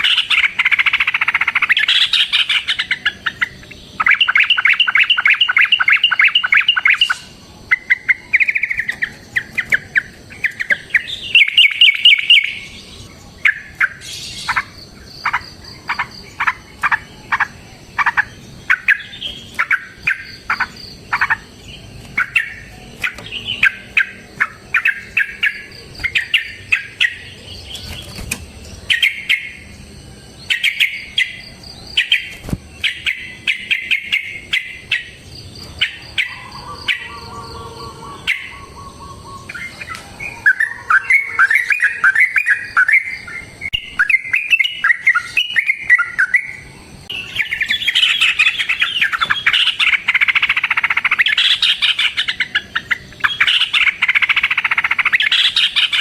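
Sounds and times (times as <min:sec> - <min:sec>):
bird chattering trills: 0:00.0 - 0:56.0.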